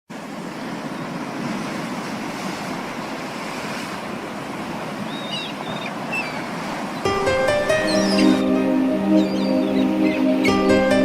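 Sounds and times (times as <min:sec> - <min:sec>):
waves washing in: 0:00.1 - 0:11.0.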